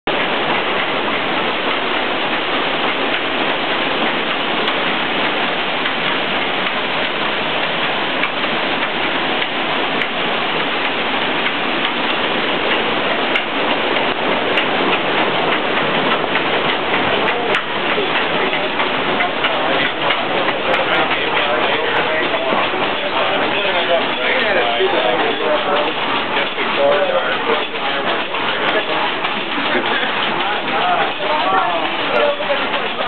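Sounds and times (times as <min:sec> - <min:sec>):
faint machinery clicks: 0:00.1 - 0:33.0
water rushing through mill wheel: 0:00.1 - 0:33.0.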